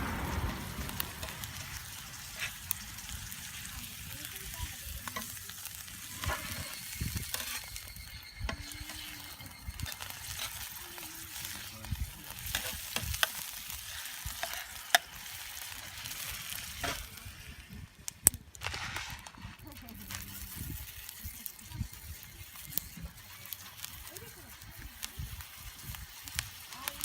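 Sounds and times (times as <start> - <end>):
food sizzling in frying pan: 0.0 - 27.0.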